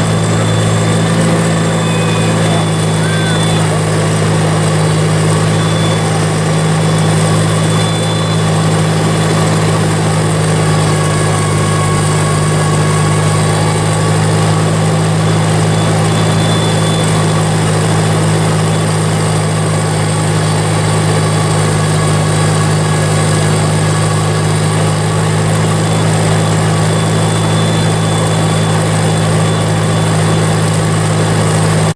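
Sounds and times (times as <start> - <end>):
tractor engine idling: 0.0 - 31.9.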